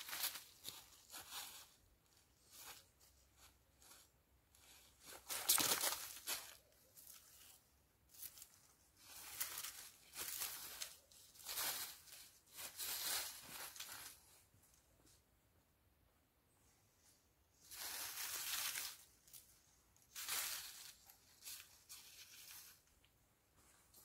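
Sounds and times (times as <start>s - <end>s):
cord rustling over branch: 0.0s - 15.3s, 16.5s - 24.0s.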